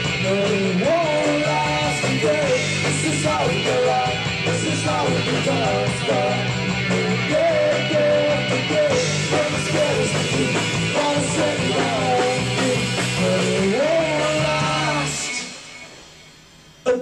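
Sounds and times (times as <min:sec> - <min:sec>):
live rock band playing: 0:00.0 - 0:16.9
man singing into microphone: 0:00.2 - 0:06.6, 0:07.3 - 0:15.5.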